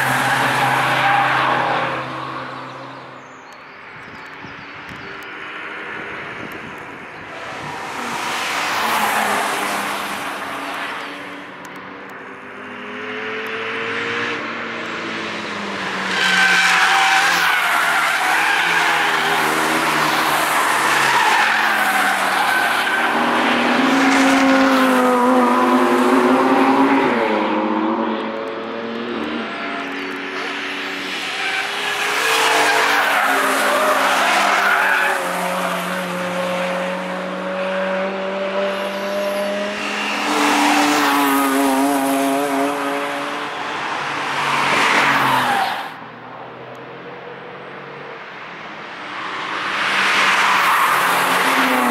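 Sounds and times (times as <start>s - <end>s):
race cars passing revving: 0.0s - 51.9s.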